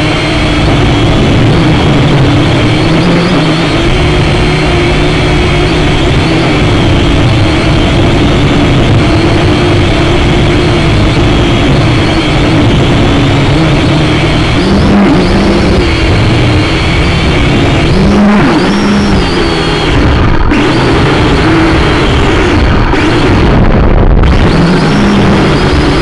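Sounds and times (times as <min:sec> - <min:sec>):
drone motors whirring: 0:00.0 - 0:26.0
low rumble: 0:00.0 - 0:26.0.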